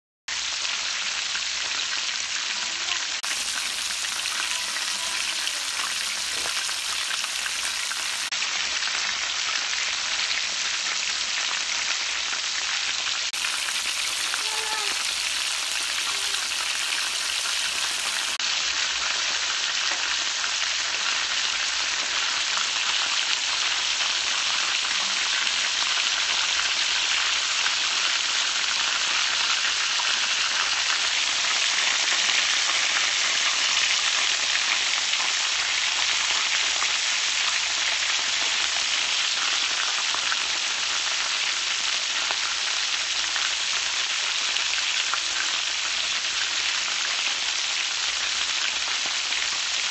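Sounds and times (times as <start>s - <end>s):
chicken deep-frying in oil: 0.3s - 49.9s.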